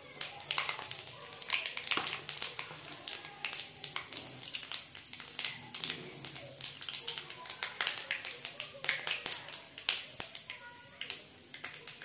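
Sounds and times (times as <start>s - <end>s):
seeds popping in hot oil: 0.0s - 12.0s.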